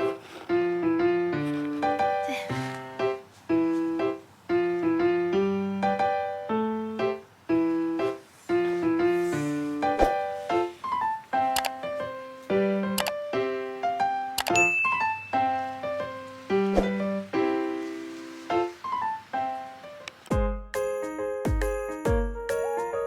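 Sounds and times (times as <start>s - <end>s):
light piano melody: 0.0s - 23.0s.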